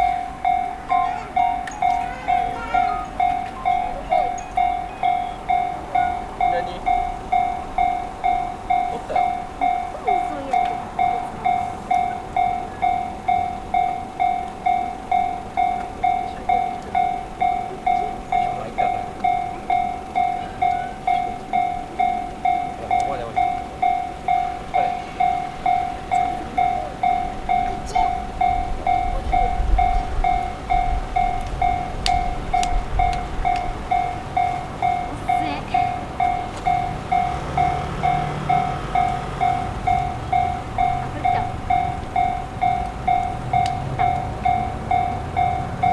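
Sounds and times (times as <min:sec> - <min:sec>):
level-crossing warning bell: 0:00.0 - 0:45.9.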